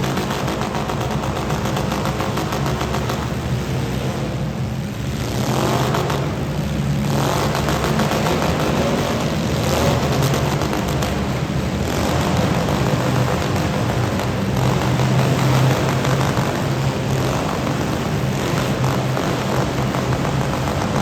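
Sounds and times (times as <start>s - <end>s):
car engines revving loudly: 0.0s - 21.0s.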